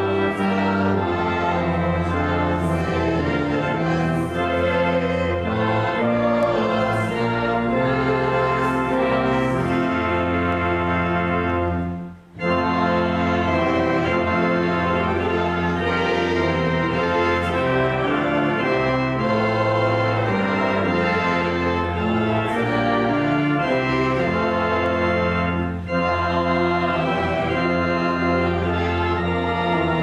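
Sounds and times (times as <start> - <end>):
pipe organ playing chords: 0.0 - 30.0.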